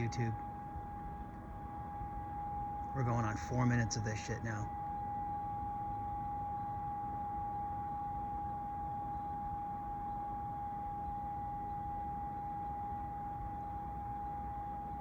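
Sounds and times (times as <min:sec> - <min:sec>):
exhaust howling high tone: 0:00.0 - 0:15.0.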